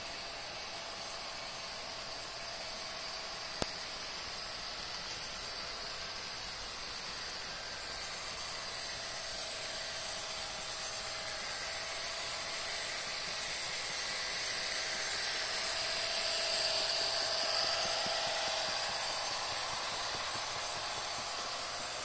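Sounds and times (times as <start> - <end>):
high turbo whine: 0.0 - 22.0
model train hiss: 0.0 - 22.0.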